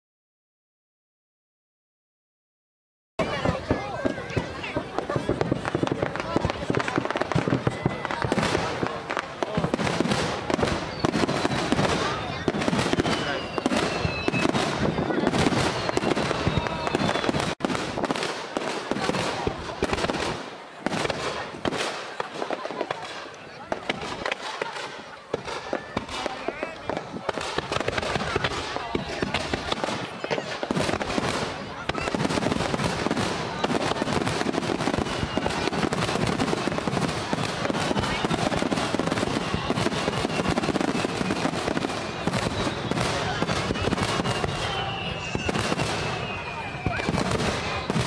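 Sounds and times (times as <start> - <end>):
fireworks cracking and popping: 3.2 - 48.0.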